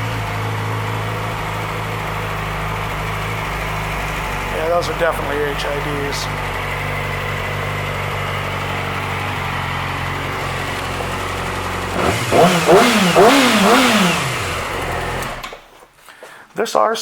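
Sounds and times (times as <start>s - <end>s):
motorcycle engine idling and revving: 0.0s - 15.7s.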